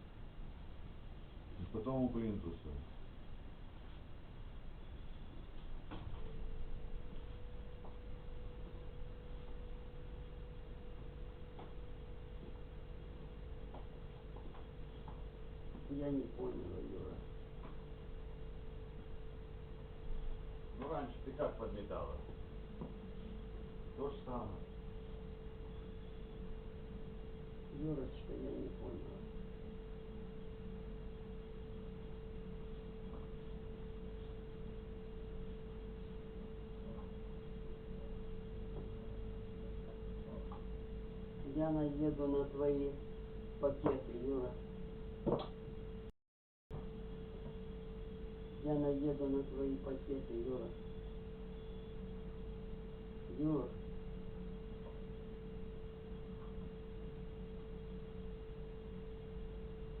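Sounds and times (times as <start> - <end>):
faint low rumble and hiss: 0.0 - 46.1, 46.8 - 60.0
faint steady whine: 0.0 - 46.1, 46.7 - 60.0
steady single-pitched hum: 0.0 - 60.0.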